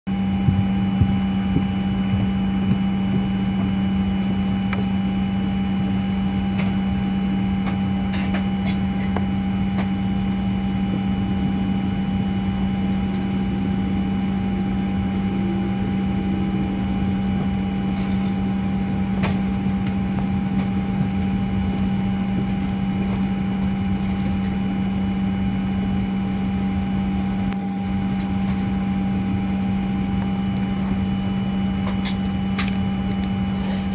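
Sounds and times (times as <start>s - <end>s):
airliner cabin hum: 0.1s - 33.9s.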